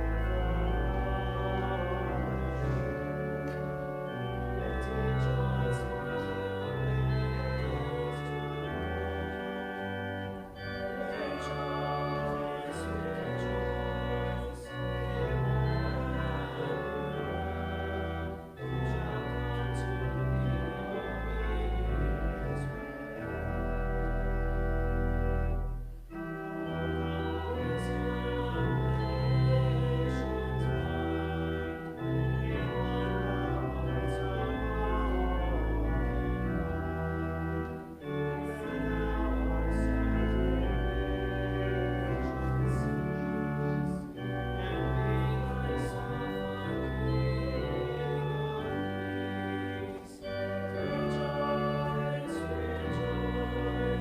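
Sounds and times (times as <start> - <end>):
church organ playing a hymn: 0.0 - 54.0.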